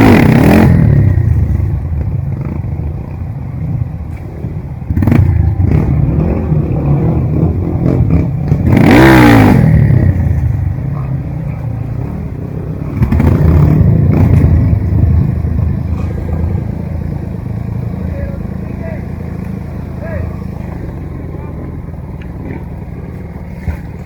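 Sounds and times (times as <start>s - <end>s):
motorcycle engine revving: 0.0s - 3.9s, 4.8s - 17.8s, 18.8s - 24.0s.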